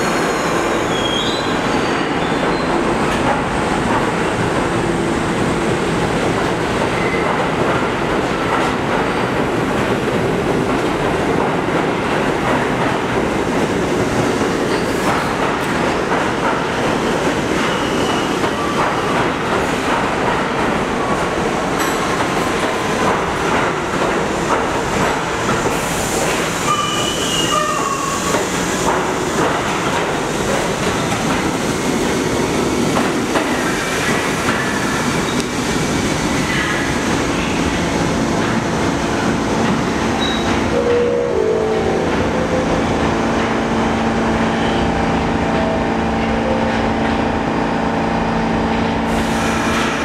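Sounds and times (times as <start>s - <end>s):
subway train rumbling past: 0.0s - 50.0s.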